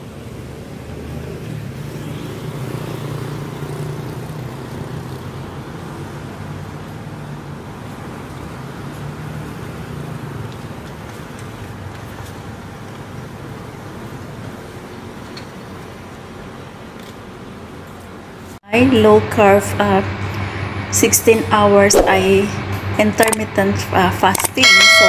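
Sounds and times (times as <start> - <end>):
road traffic noise: 0.0 - 25.0
vehicle engine humming: 0.0 - 25.0.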